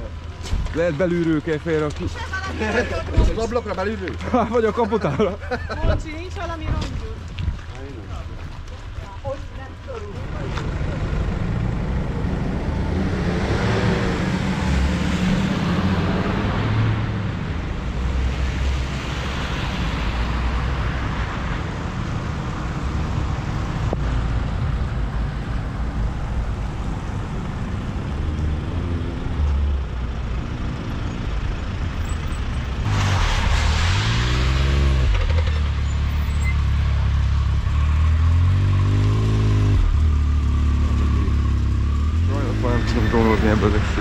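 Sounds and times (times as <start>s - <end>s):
off-road vehicles driving past: 0.0s - 44.0s.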